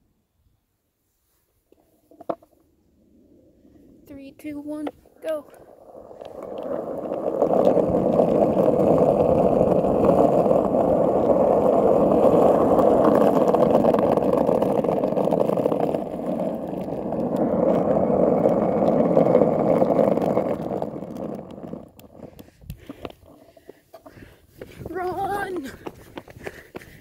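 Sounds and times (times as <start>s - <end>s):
skateboard wheels rolling on asphalt: 0.1s - 27.0s.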